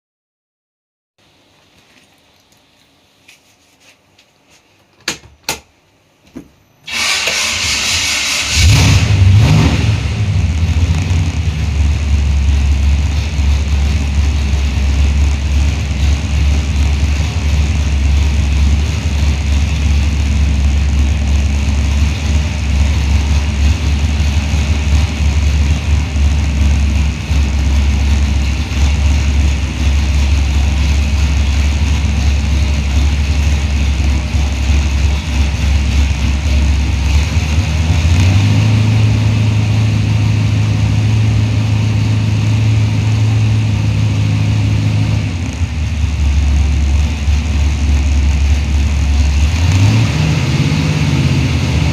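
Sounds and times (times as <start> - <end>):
engine idling and revving: 6.9 - 51.9.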